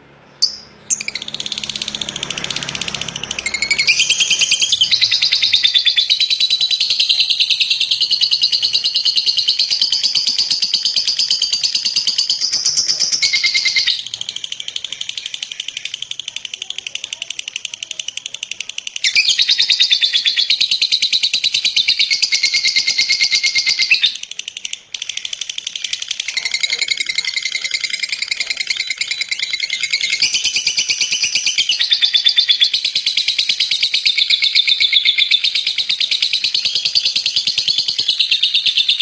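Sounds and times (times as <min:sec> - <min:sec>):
bird chattering trill: 0:00.4 - 0:39.0.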